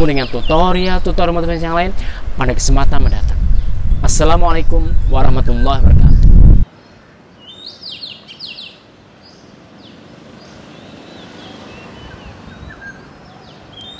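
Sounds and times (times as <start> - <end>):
birds chirping: 0.0 - 13.9
steady low hiss: 0.0 - 13.9.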